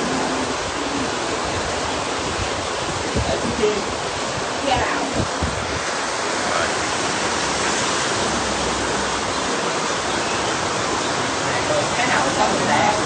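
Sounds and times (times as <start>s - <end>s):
aquarium water rushing: 0.0s - 13.0s.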